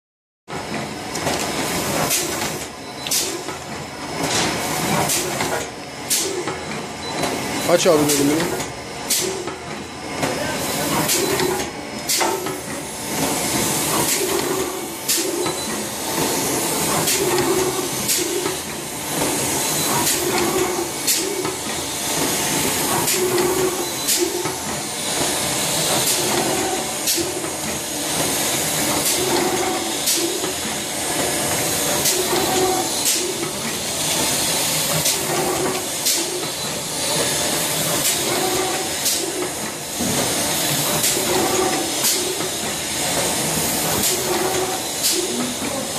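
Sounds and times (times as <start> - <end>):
packaging machine hiss: 1.4 - 3.5, 4.1 - 6.6, 7.3 - 9.5, 10.2 - 45.9.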